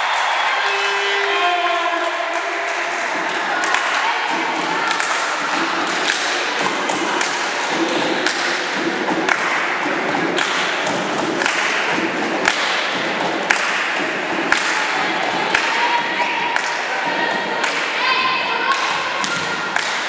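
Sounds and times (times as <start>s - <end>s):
murmur of voices: 0.0s - 20.0s
dull thuds in a hall: 2.2s - 20.0s.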